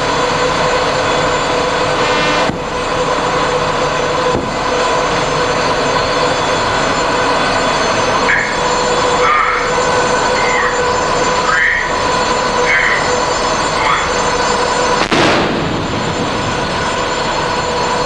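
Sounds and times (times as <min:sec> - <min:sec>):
constant hum: 0:00.0 - 0:18.0
loud mechanical drone: 0:00.0 - 0:18.0.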